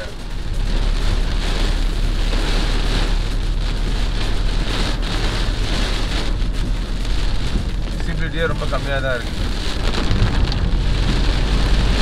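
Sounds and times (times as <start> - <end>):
heavy rain on car roof: 0.0 - 12.0
low car rumble: 0.0 - 12.0.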